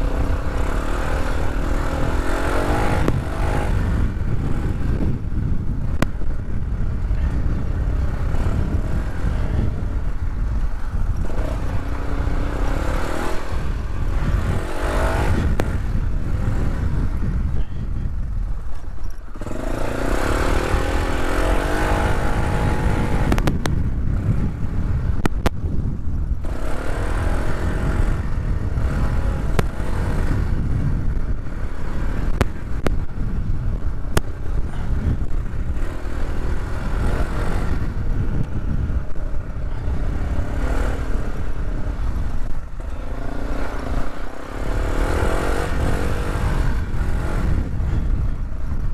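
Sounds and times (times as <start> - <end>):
off-road vehicle engine revving: 0.0 - 48.9.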